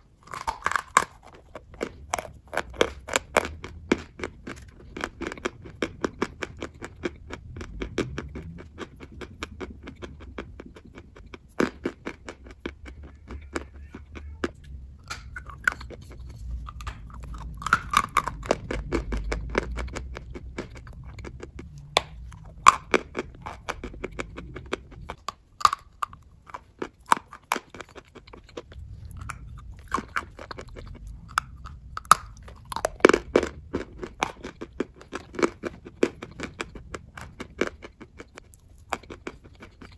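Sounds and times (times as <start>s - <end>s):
person crunching chalk: 0.0s - 39.9s.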